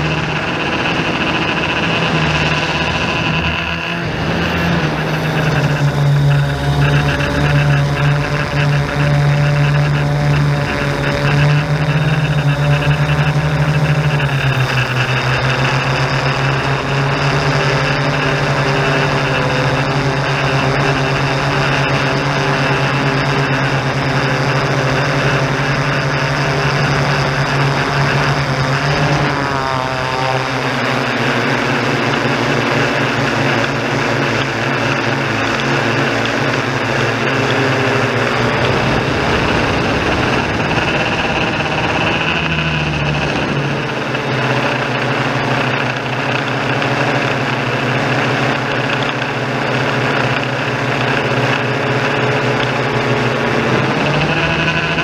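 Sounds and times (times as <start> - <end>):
drone motors humming: 0.0 - 55.0.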